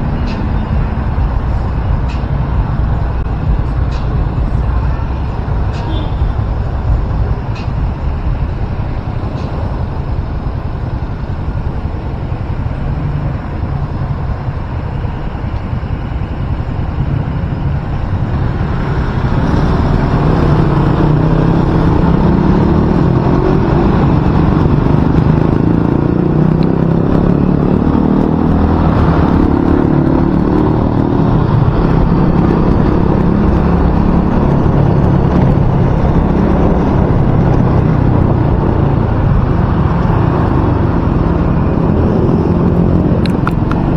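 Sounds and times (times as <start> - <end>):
vehicle running: 0.0 - 43.9
wind buffeting microphone: 0.0 - 43.9.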